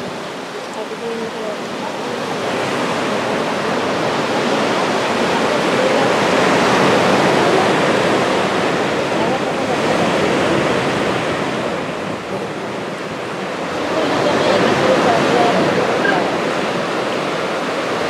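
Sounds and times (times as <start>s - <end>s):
surf rushing in sea cave: 0.0s - 18.0s.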